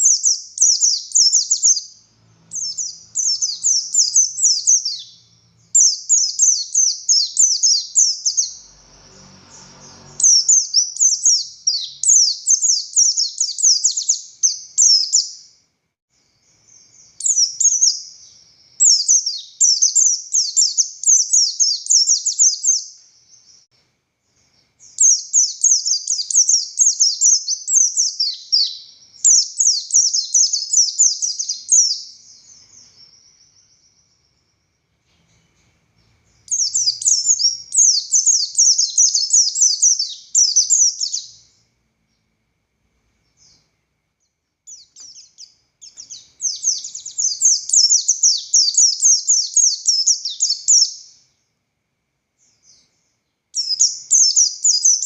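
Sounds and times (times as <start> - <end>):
bird twittering song: 0.0 - 42.4, 43.2 - 51.5, 52.4 - 55.0.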